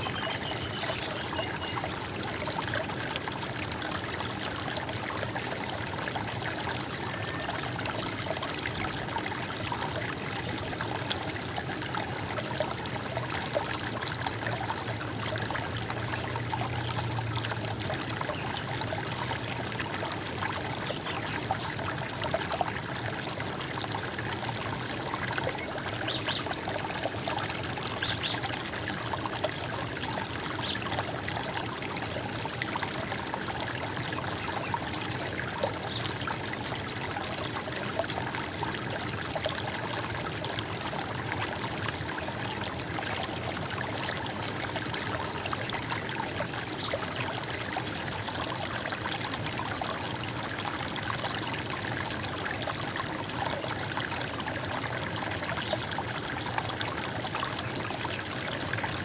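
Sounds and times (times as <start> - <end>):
running water trickling: 0.0 - 59.0.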